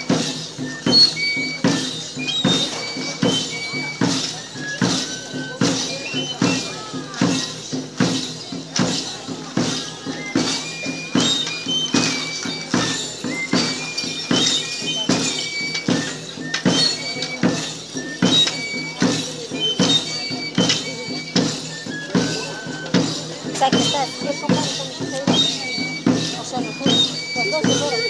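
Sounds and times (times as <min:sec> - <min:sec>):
steady drum beat: 0:00.0 - 0:28.0.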